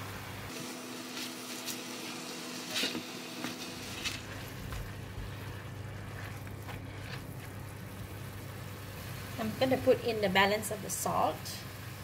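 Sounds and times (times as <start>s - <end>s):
food sizzling in a wok: 0.0s - 5.8s, 7.5s - 12.0s.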